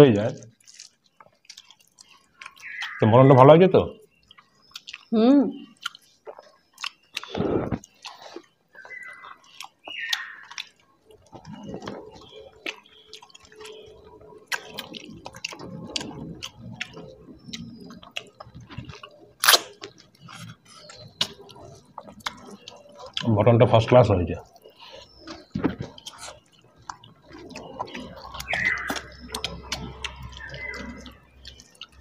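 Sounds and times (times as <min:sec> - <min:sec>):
people chewing food: 0:00.0 - 0:32.0.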